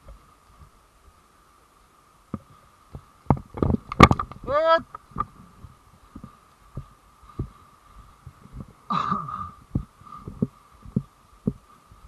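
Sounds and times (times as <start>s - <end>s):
faint steady hum: 0.0s - 12.0s
rustle: 0.0s - 12.0s.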